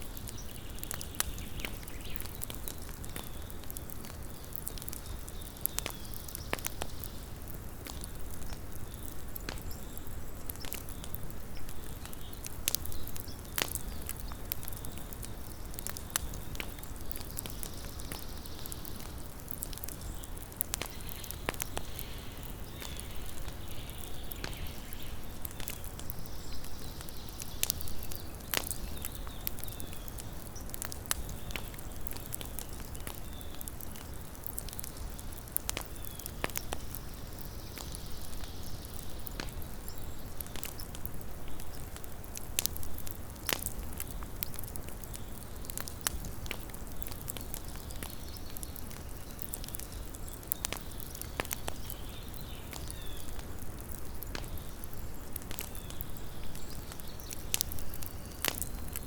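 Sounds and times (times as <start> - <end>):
campfire crackling and popping: 0.0 - 59.0
low rumble and hiss of burning wood: 0.0 - 59.0.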